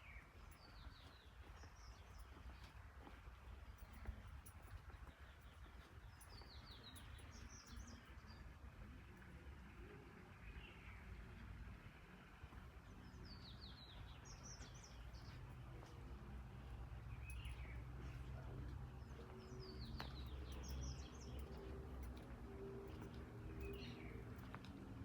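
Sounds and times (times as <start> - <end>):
small birds chirping: 0.0 - 11.7, 12.4 - 25.0.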